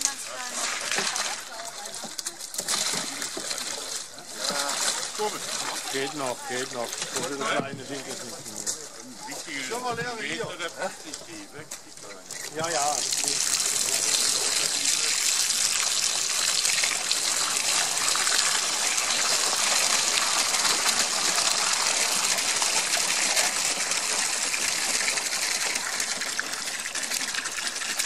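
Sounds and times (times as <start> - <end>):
water gushing into bucket: 0.0 - 28.0.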